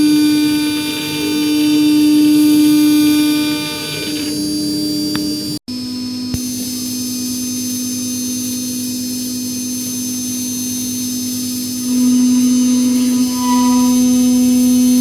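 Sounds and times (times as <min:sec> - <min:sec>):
router spindle high hum: 0:00.0 - 0:15.0.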